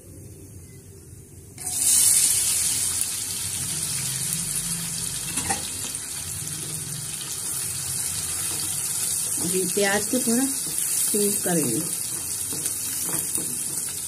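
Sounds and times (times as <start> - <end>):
onions sizzling in hot oil: 1.6 - 14.0.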